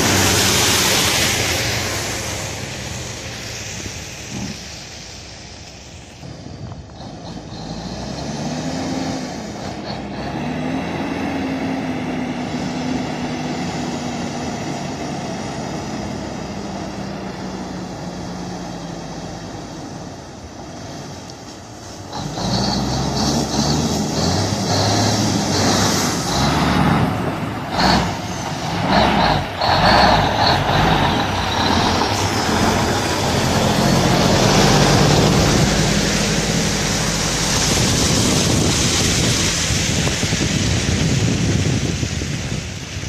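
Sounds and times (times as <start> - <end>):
truck diesel engine under load: 0.0 - 43.0.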